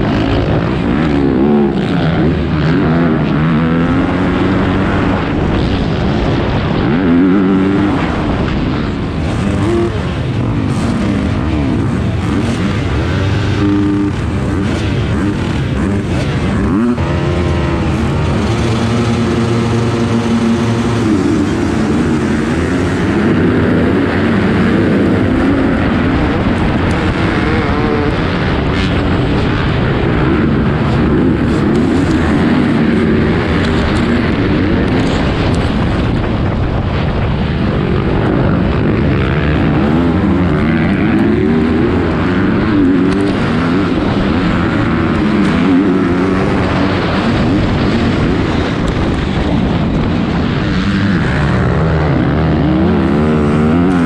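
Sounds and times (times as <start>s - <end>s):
dirt bike engine revving: 0.0s - 54.0s
other dirt bikes nearby: 0.0s - 54.0s.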